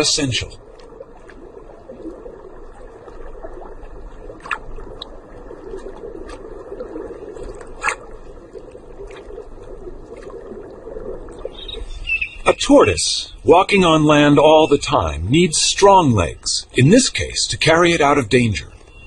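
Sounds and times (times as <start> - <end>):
underwater water wash: 0.0 - 19.0.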